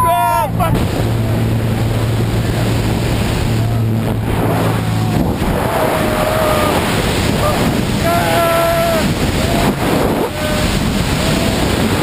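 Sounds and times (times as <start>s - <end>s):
plane engine drone: 0.0s - 12.0s
wind buffeting microphone: 0.0s - 12.0s.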